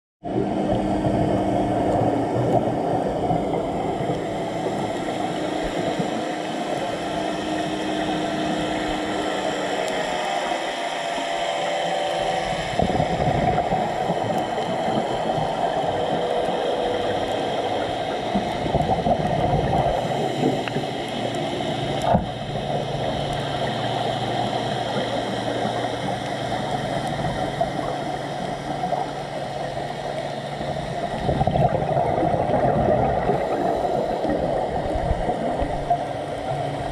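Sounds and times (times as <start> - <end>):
faint hum: 0.2 - 36.9
muffled underwater wash: 0.2 - 36.9.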